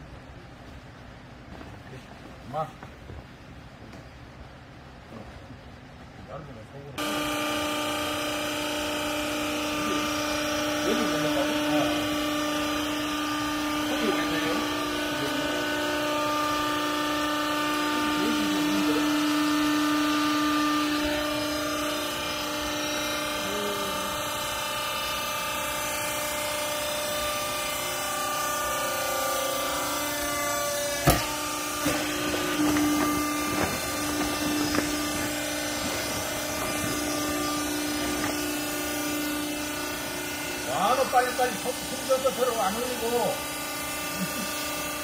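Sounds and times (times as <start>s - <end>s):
hydraulic motor humming: 7.0s - 45.0s.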